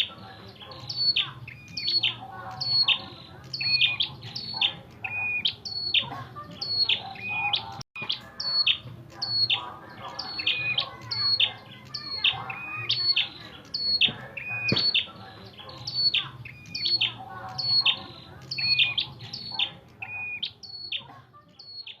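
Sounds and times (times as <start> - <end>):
bird chirping call: 0.0 - 22.0.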